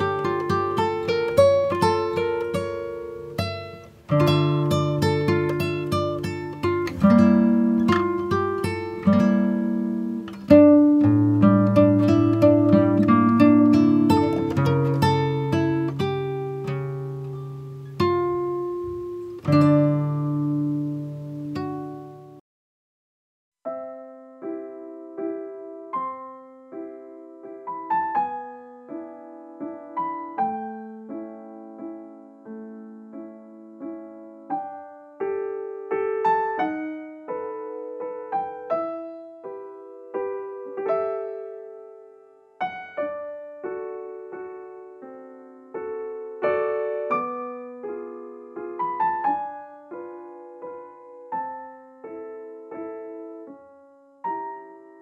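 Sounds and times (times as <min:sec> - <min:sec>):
piano music: 0:00.0 - 0:22.4, 0:23.7 - 0:55.0.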